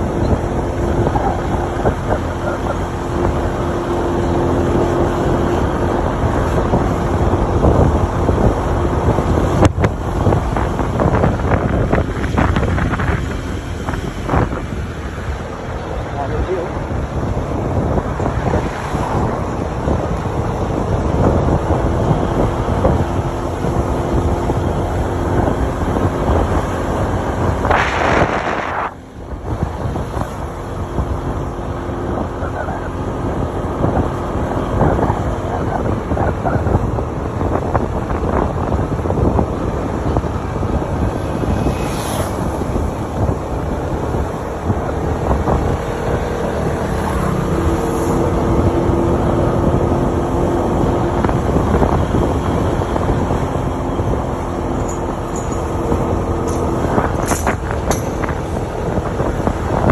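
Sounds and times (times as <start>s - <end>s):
vehicle engine drone: 0.0s - 59.9s
wind buffeting microphone: 0.0s - 59.9s.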